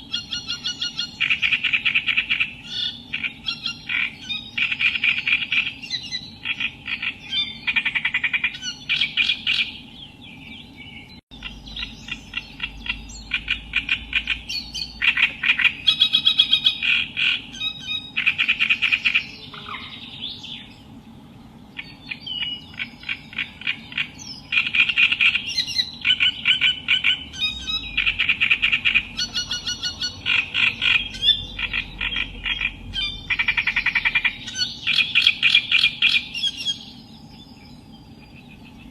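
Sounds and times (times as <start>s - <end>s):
reed warbler singing: 0.0s - 38.9s.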